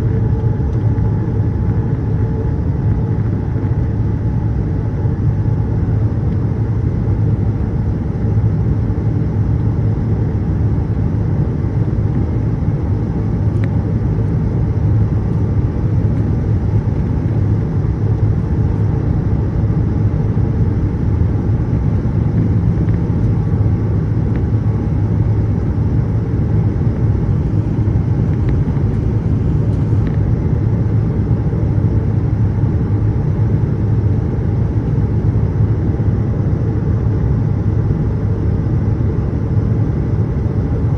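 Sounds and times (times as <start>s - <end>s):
airliner engine rumble in flight: 0.0s - 40.9s.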